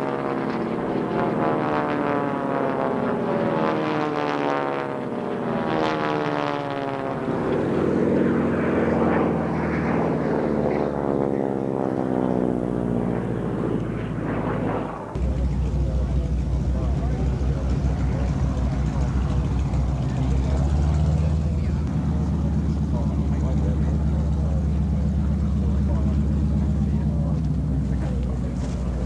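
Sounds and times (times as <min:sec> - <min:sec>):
propeller aircraft droning overhead: 0:00.0 - 0:29.0.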